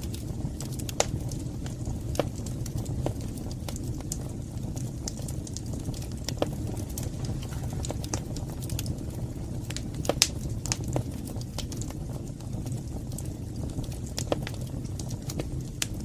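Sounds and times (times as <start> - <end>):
fire flames rumbling: 0.0 - 16.0
wood fire crackles and pops: 0.0 - 16.0.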